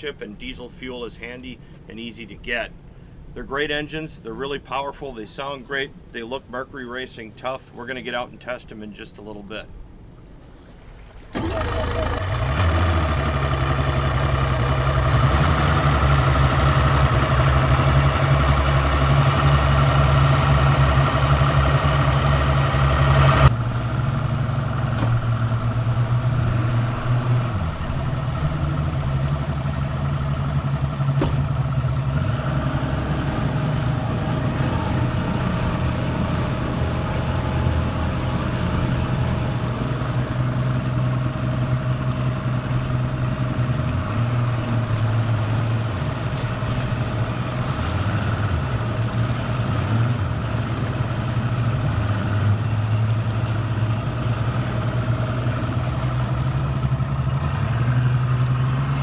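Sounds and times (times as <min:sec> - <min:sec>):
outboard motors running: 0:10.2 - 0:59.0.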